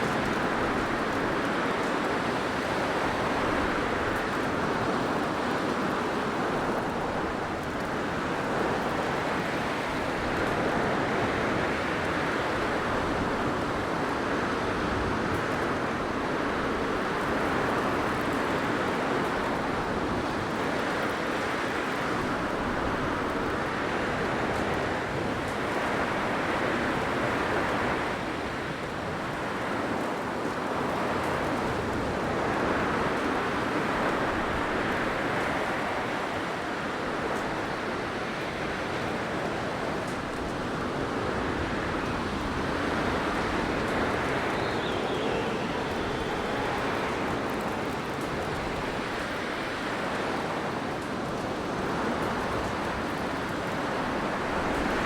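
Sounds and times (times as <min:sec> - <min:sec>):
blizzard wind blowing: 0:00.0 - 0:55.0.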